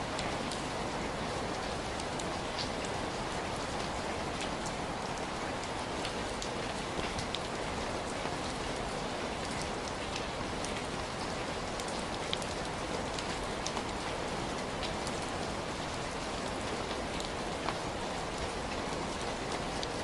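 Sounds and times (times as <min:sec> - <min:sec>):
raindrops ticking on a surface: 0:00.0 - 0:20.0.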